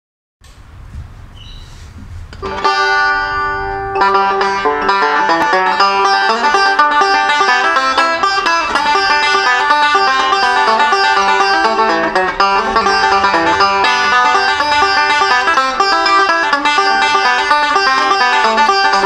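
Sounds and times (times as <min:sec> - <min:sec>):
banjo playing bluegrass tune: 0:02.4 - 0:19.0.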